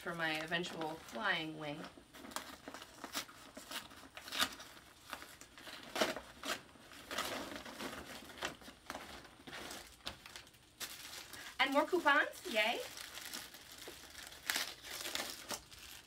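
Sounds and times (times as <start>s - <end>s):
paper envelope rustling and crinkling: 0.0s - 16.0s.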